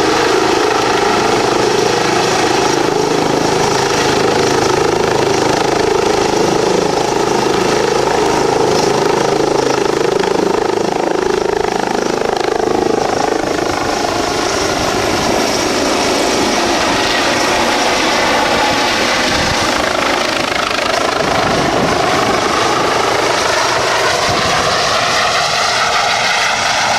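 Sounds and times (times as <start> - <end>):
helicopter rotor and turbine: 0.0 - 26.9.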